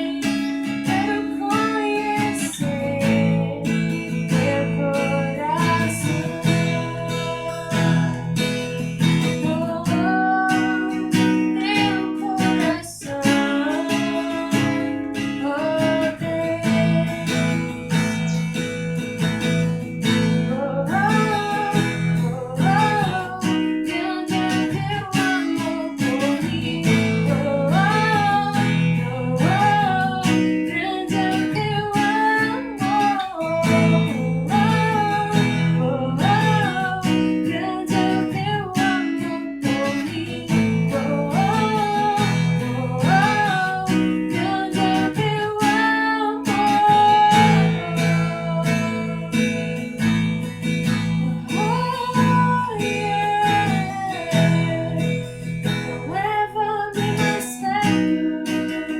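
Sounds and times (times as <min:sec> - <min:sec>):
strummed acoustic guitar: 0:00.0 - 0:58.9
woman singing: 0:00.0 - 0:58.9.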